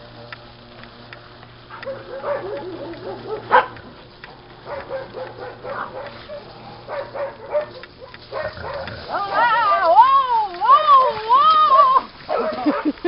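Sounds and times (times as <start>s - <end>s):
dogs barking and yipping: 1.6s - 13.0s.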